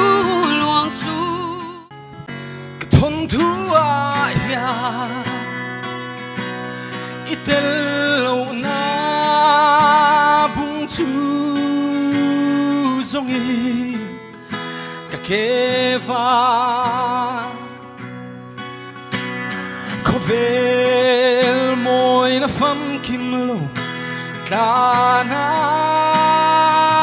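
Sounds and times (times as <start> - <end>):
man singing with vibrato: 0.0 - 18.0, 19.6 - 27.0
strummed acoustic guitar: 0.0 - 27.0.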